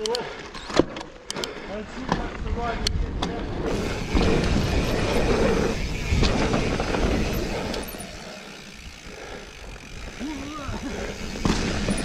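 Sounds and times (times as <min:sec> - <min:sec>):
bike rattling: 0:00.0 - 0:12.0
bike tyres rumbling on pebbles: 0:02.0 - 0:12.0.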